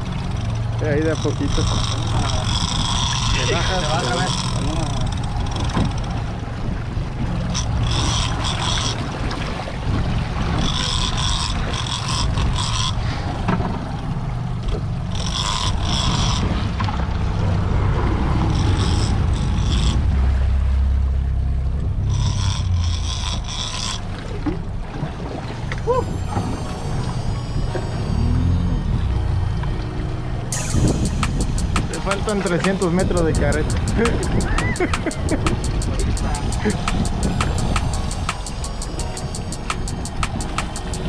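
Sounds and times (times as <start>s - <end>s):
fishing reel whirring: 0.0s - 20.9s, 22.0s - 24.8s, 25.6s - 29.6s, 30.5s - 41.0s
outboard motors rumbling: 0.0s - 41.0s.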